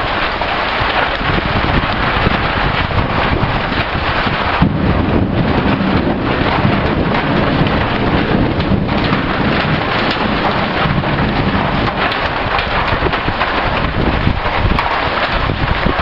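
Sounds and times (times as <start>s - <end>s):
heavy rain pouring: 0.0s - 16.0s
thunder rumbling: 0.0s - 16.0s.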